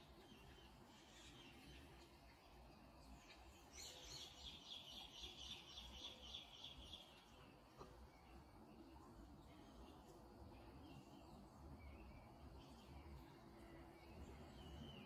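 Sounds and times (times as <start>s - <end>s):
small bird singing: 0.0s - 15.0s.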